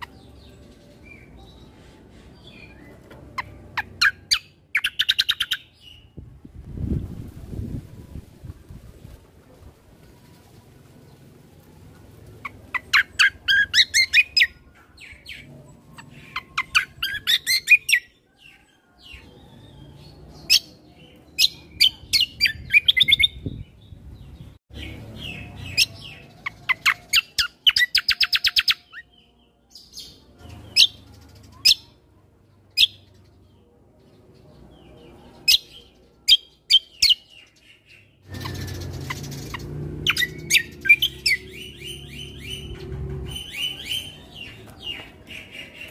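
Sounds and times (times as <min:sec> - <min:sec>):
songbird chirping and trilling: 0:00.0 - 0:45.9.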